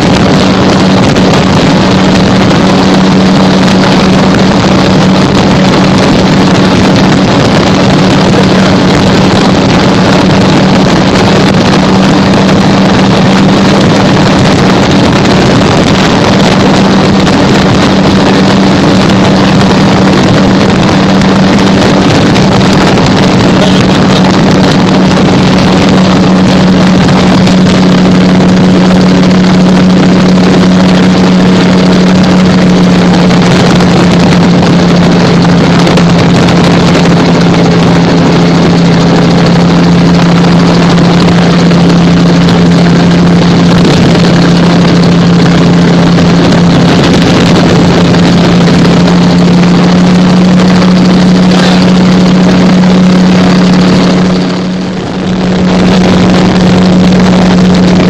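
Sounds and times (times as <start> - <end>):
aircraft engine and propeller droning: 0.0 - 58.0
rushing air: 0.0 - 58.0.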